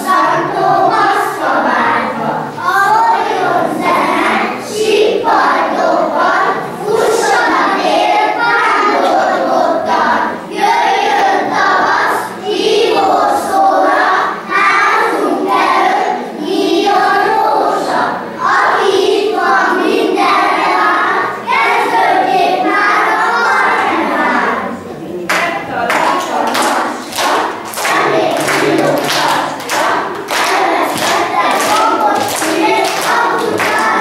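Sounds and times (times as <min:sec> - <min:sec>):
children singing together: 0:00.0 - 0:34.0.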